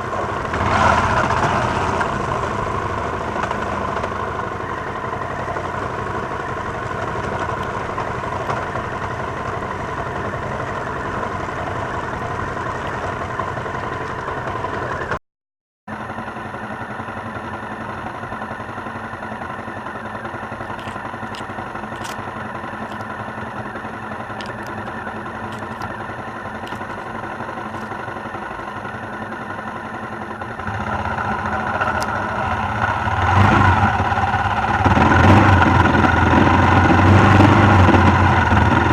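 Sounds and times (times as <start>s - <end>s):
motorcycle engine running: 0.0s - 15.2s, 15.9s - 38.9s.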